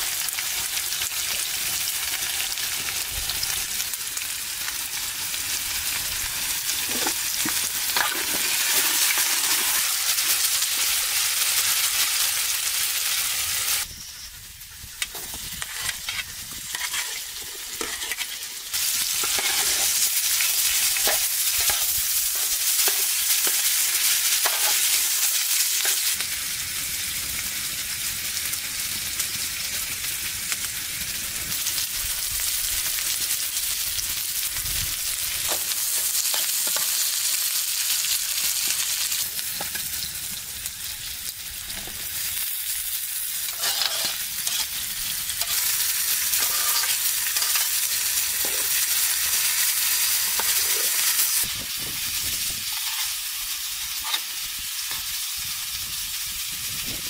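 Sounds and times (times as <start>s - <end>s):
mushrooms sizzling in oil: 0.0s - 57.0s.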